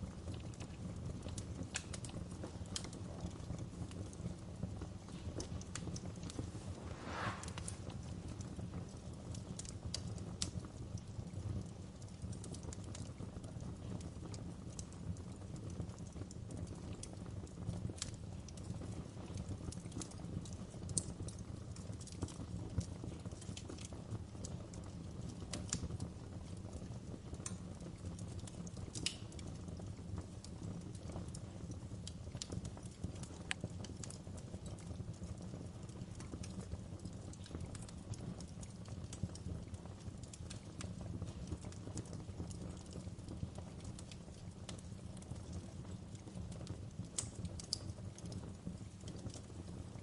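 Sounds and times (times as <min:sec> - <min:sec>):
fire pops and crackles: 0:00.0 - 0:50.0
wood fire burning: 0:00.0 - 0:50.0.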